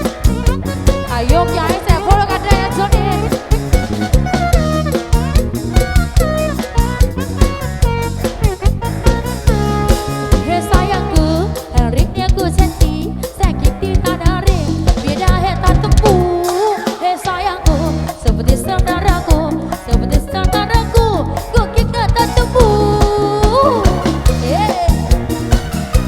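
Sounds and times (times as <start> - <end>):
drums fast beat: 0.0 - 26.0
live band music: 0.0 - 26.0.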